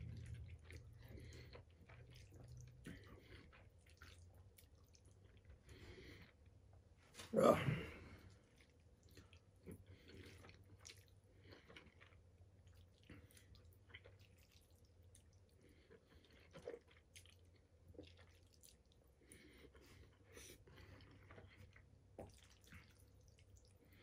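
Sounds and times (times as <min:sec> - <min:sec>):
wet chewing and mouth sounds: 0:00.0 - 0:06.9, 0:08.2 - 0:24.0
low steady hum: 0:00.0 - 0:24.0.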